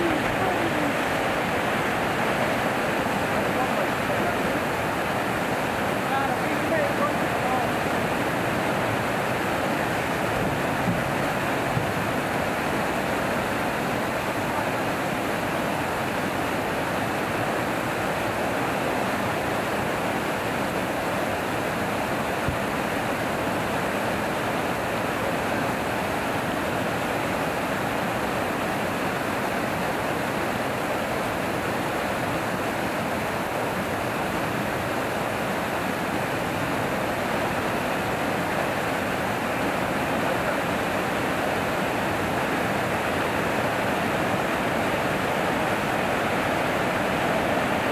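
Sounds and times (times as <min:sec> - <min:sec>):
water rushing over a weir: 0:00.0 - 0:47.9.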